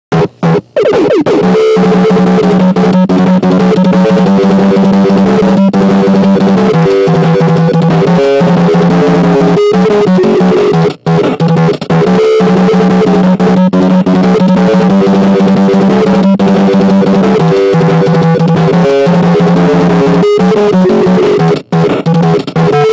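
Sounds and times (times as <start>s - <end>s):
music with drums and guitar: 0.2s - 22.9s.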